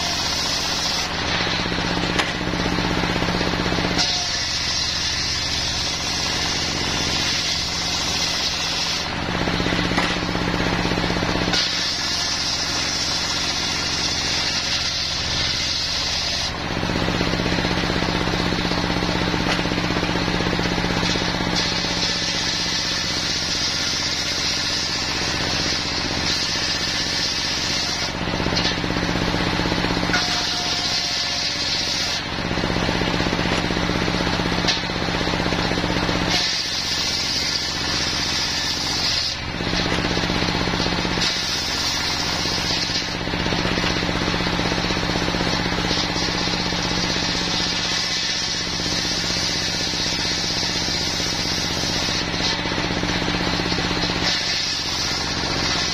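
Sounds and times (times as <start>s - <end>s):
diesel engine running: 0.0s - 55.9s
saw blade cutting timber: 0.0s - 55.9s.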